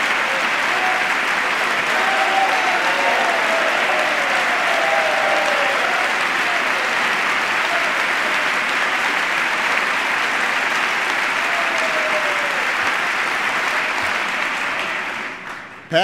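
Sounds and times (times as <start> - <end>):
large crowd applauding: 0.0 - 16.0.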